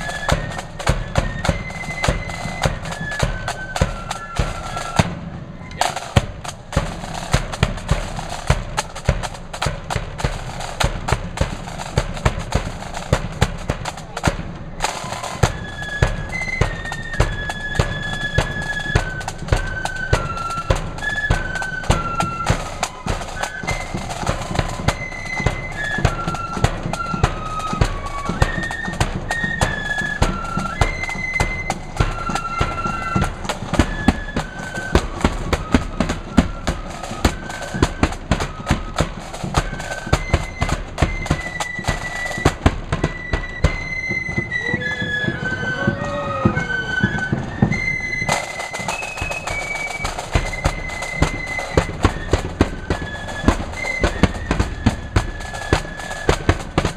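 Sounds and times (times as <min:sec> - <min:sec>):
high flute melody: 0:00.0 - 0:56.9
rapid snare drumming: 0:00.0 - 0:56.9.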